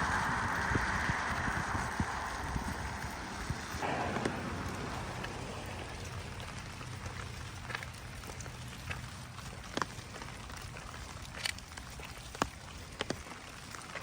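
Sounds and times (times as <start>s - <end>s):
light rain: 0.0s - 14.0s.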